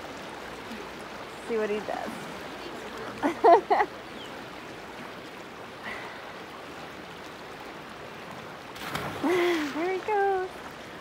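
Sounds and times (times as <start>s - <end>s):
fast river current rushing: 0.0s - 11.0s.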